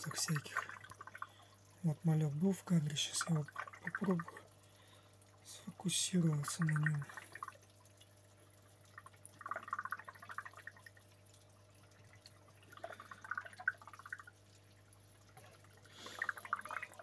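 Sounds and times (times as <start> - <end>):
low steady hum: 0.0 - 17.0
water trickling and dripping: 0.0 - 17.0.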